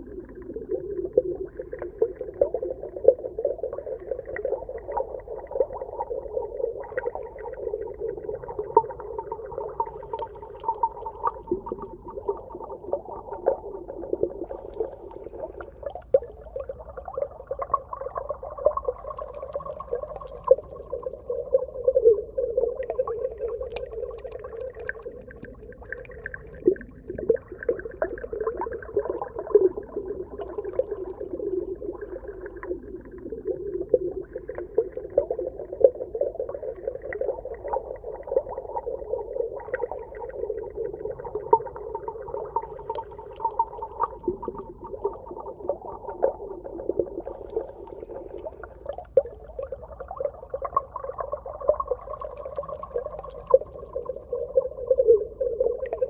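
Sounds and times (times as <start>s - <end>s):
low wavering underwater hum: 0.0s - 56.0s.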